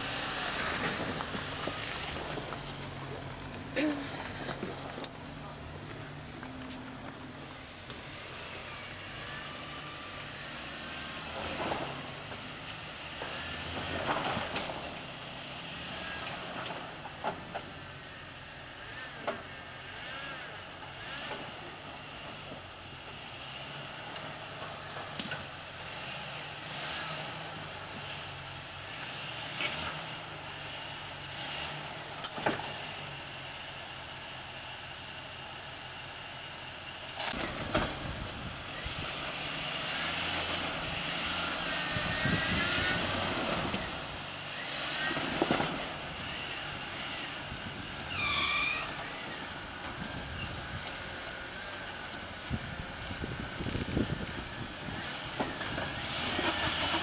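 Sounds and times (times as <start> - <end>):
engine running at low revs: 0.0 - 34.5, 36.9 - 48.2, 48.8 - 57.0.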